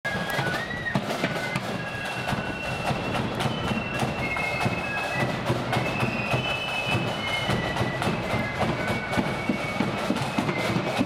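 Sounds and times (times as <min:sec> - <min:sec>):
shrill flutes: 0:00.0 - 0:11.0
drum beat: 0:00.1 - 0:11.0.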